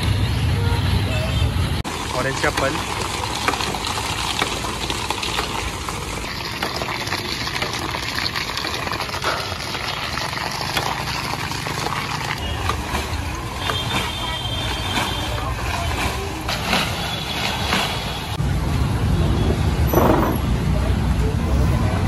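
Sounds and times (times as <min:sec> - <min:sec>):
busy street noise: 0:00.0 - 0:22.0.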